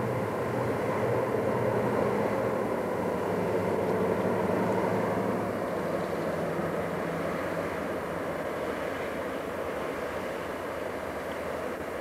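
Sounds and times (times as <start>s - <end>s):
locomotive engine drone: 0.0s - 12.0s.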